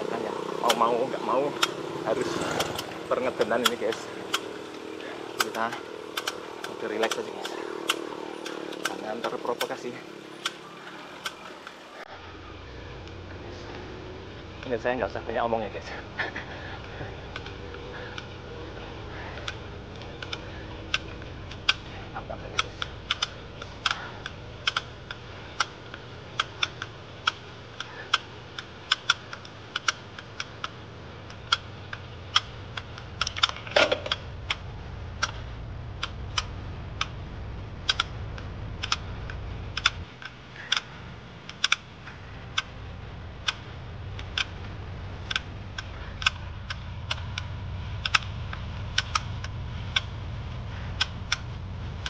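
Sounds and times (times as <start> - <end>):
bike drivetrain clicks: 0.0 - 52.0
low steady rumble: 0.0 - 52.0.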